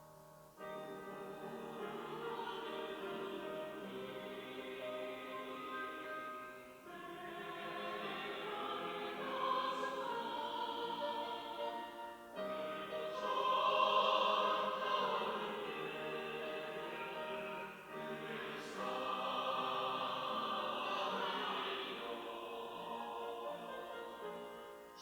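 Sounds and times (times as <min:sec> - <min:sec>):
church choir singing: 0:00.0 - 0:25.0.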